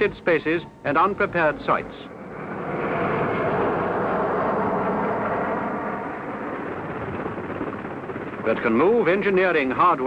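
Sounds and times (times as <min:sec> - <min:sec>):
helicopter lifting off: 0:00.0 - 0:10.0.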